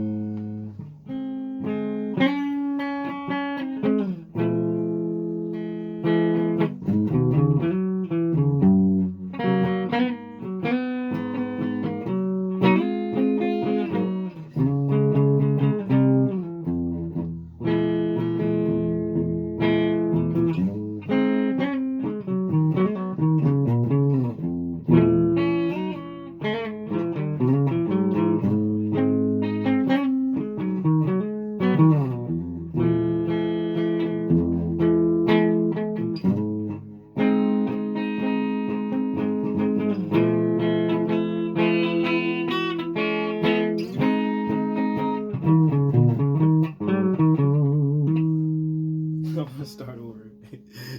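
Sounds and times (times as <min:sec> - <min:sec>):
guitar playing: 0:00.0 - 0:50.9.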